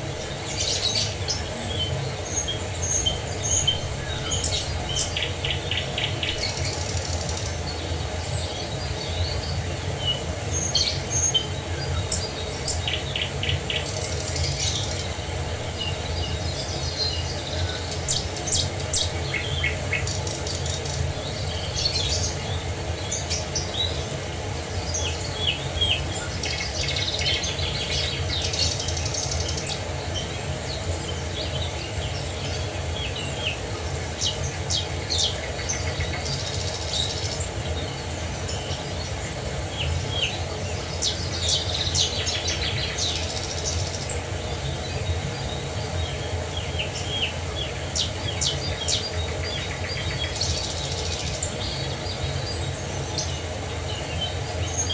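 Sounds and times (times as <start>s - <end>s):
birds chirping and trilling: 0.0s - 54.9s.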